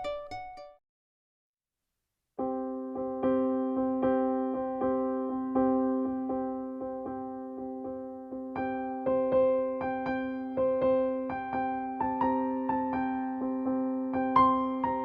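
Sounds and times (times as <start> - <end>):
slow keyboard music: 2.4 - 15.0.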